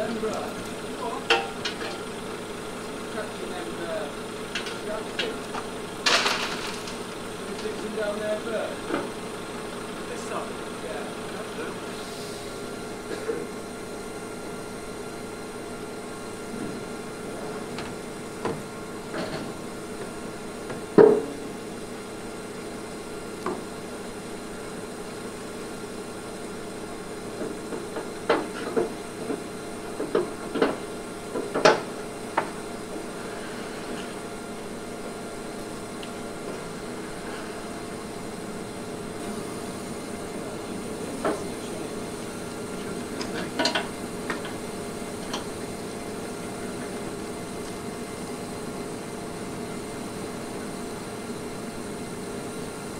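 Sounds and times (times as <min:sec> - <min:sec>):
concrete mixer truck running: 0:00.0 - 0:52.9.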